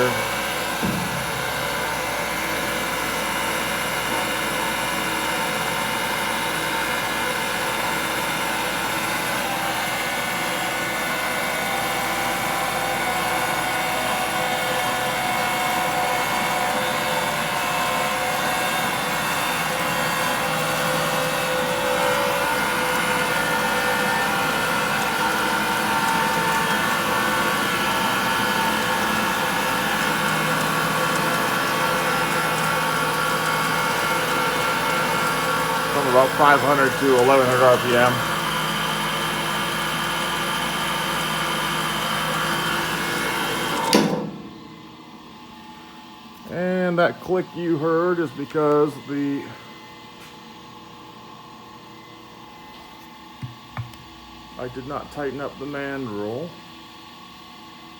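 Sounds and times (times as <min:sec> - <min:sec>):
grinder spindle hum and whine: 0:00.0 - 0:57.9.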